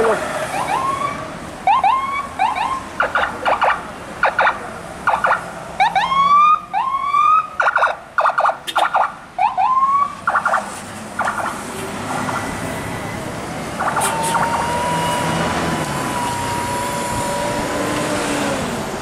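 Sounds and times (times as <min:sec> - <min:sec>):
electronic vehicle siren whooping: 0:00.5 - 0:13.1, 0:13.8 - 0:18.0
rapid stuttering siren blasts: 0:00.6 - 0:13.1, 0:13.8 - 0:17.7.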